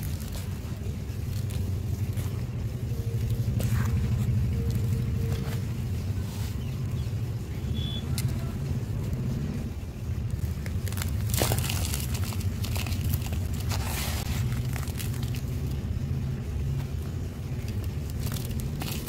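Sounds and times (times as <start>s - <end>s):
dry soil rustling and ticking: 0.0s - 19.0s
steady low rumble: 0.0s - 19.0s.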